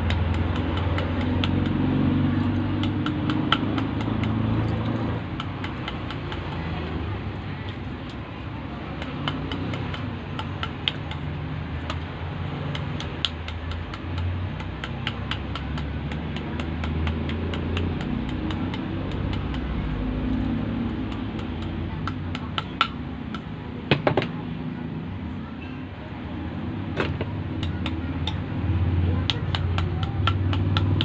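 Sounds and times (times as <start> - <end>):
tool tapping motor coils: 0.0 - 6.9, 8.8 - 23.5, 27.0 - 31.0
low steady rumble: 0.0 - 31.0.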